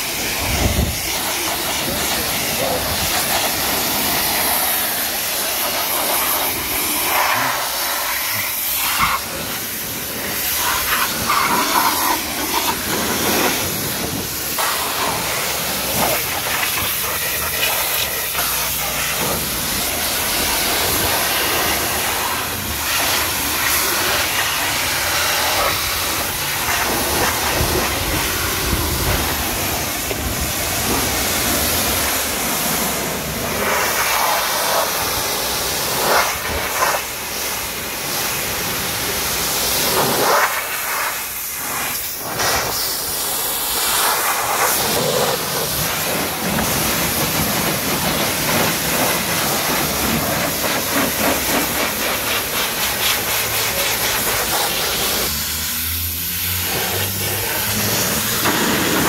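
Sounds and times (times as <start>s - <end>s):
pressure washer spraying car: 0.0s - 59.0s.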